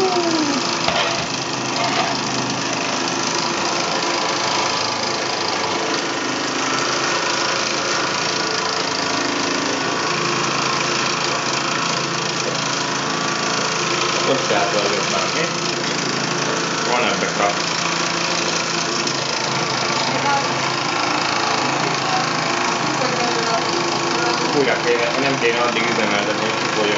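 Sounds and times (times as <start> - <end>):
toy steam engine hissing: 0.0 - 26.9.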